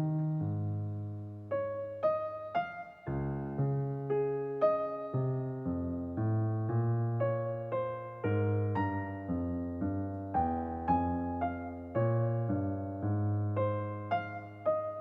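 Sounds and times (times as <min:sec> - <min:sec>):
calm slow piano music: 0:00.0 - 0:15.0.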